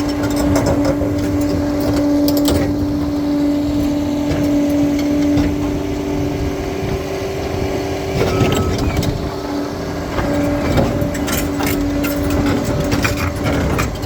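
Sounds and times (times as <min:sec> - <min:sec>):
bulldozer engine whining: 0:00.0 - 0:14.0.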